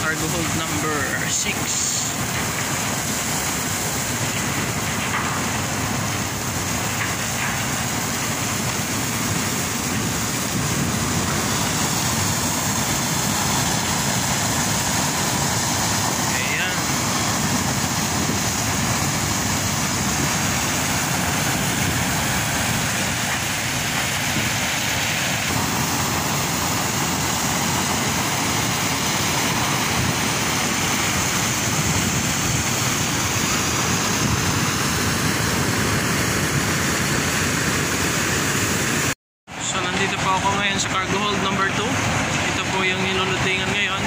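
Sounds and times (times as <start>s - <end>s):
coal pouring into a hold: 0.0s - 37.1s
loading machinery running: 0.0s - 44.0s.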